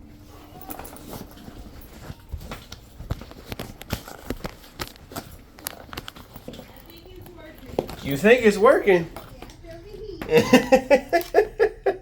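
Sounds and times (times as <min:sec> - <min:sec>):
footsteps: 0:00.0 - 0:10.2.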